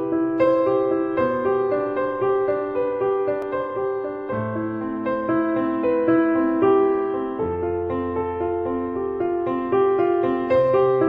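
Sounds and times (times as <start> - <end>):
piano melody with held notes: 0.0 - 11.0.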